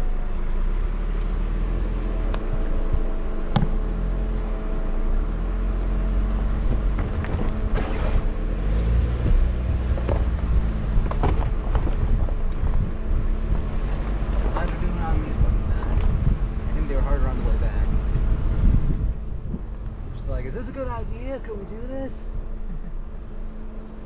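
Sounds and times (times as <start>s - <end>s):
car rumbling on rocky road: 0.0s - 24.0s.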